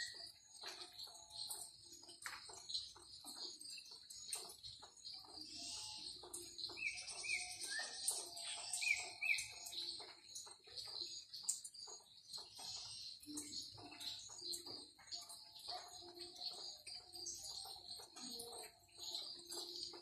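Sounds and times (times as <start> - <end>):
birds chirping and calling: 0.0 - 20.0.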